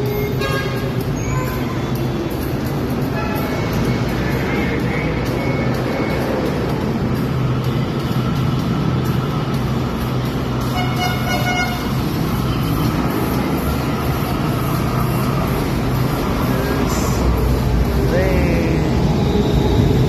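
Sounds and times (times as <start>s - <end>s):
trains rumbling: 0.0s - 20.0s.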